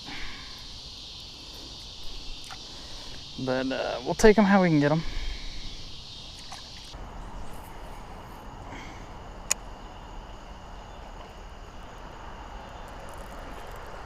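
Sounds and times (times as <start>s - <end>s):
insects chirring: 0.0s - 14.0s
outdoor background hiss: 0.0s - 14.0s.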